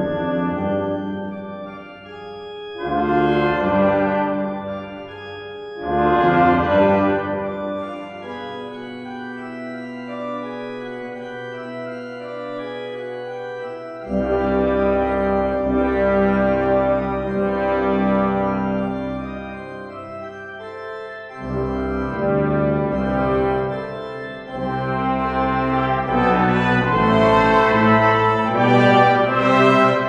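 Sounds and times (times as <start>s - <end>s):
brass ensemble playing chords: 0.0s - 2.2s, 2.8s - 30.0s
church organ: 0.0s - 30.0s.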